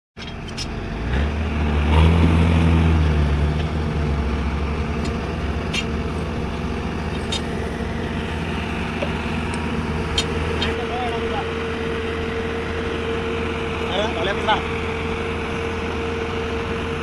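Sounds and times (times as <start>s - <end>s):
heavy diesel engine running: 0.2s - 17.0s.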